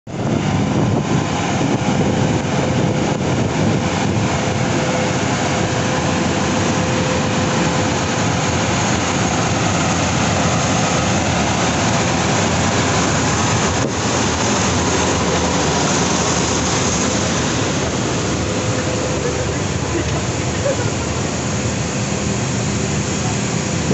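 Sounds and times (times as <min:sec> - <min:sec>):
engine drone with whine: 0:00.1 - 0:23.9.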